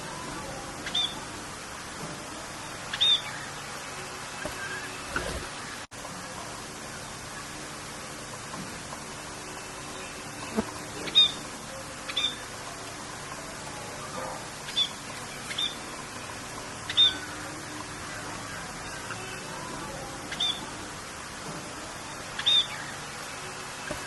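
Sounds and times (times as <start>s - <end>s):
birds chirping: 0.0s - 1.4s, 2.1s - 5.9s, 6.8s - 21.1s, 22.0s - 24.0s
rain hiss: 0.0s - 24.0s.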